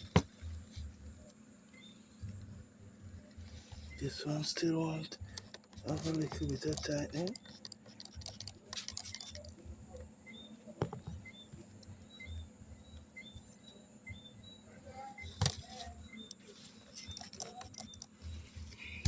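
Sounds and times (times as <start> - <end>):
faint high chirp: 0.0 - 7.6, 8.8 - 19.0.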